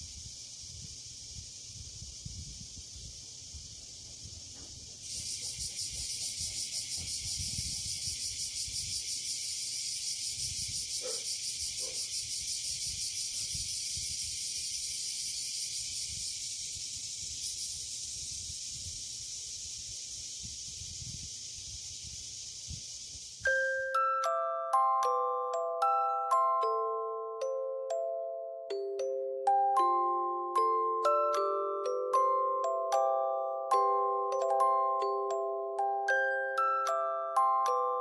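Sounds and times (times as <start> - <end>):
cicadas buzzing: 0.0 - 38.0.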